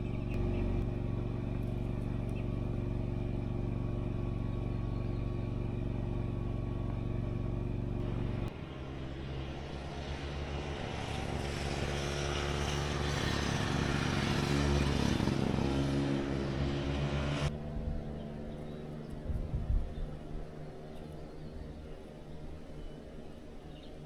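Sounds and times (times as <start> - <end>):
road and wind rush: 0.0 - 24.0
vehicle engine running: 0.0 - 24.0.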